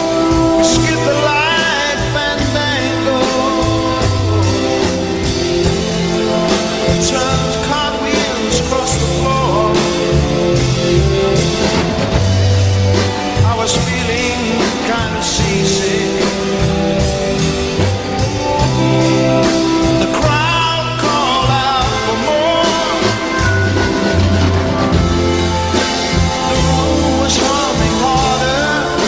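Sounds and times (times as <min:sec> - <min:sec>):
rock music with singing: 0:00.0 - 0:29.0.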